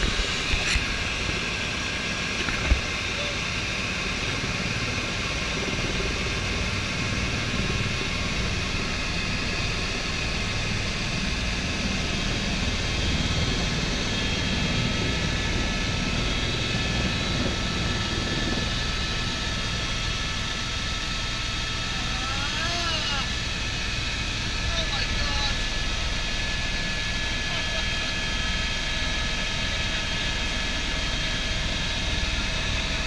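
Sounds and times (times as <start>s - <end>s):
helicopter rotor thrum: 0.0s - 33.0s
high turbine whine: 0.0s - 33.0s.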